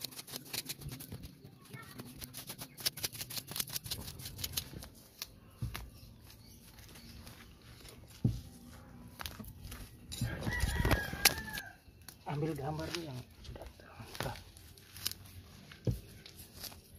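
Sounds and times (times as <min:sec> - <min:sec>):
hand tool scratching soil and roots: 0:00.0 - 0:16.9.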